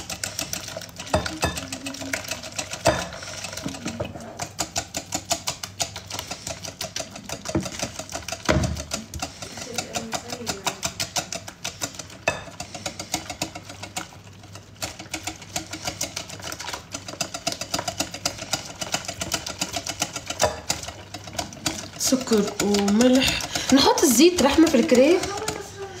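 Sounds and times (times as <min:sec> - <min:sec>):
batter beaten in a mixing bowl: 0:00.0 - 0:26.0.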